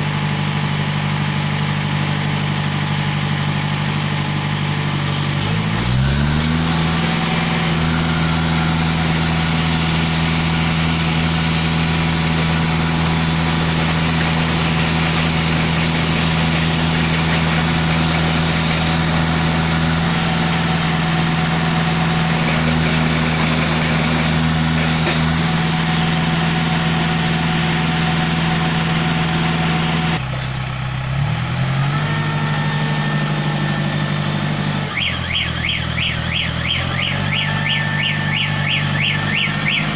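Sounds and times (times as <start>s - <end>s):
concrete mixer engine running: 0.0s - 39.9s.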